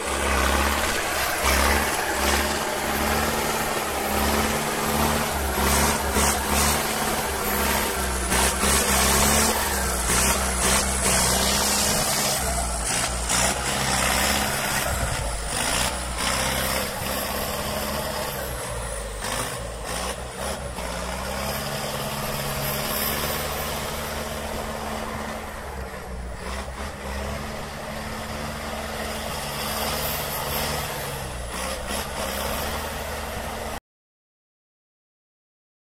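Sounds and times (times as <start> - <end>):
tractor diesel engine revving: 0.0 - 33.8.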